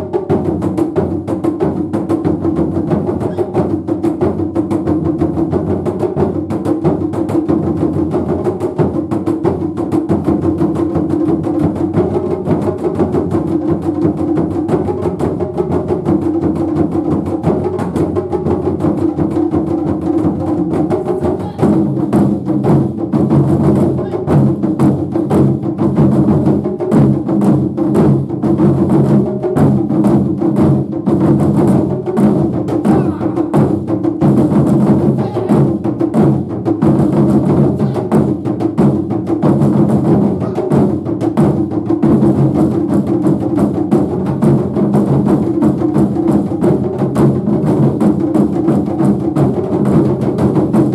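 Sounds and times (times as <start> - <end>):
taiko drums ensemble: 0.0 - 50.9.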